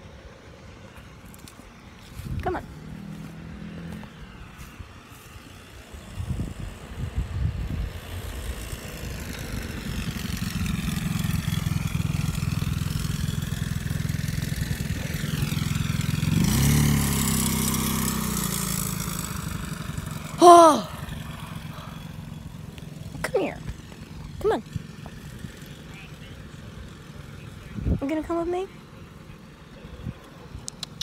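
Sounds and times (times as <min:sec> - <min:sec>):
vehicle engine passing by: 0:00.0 - 0:31.0.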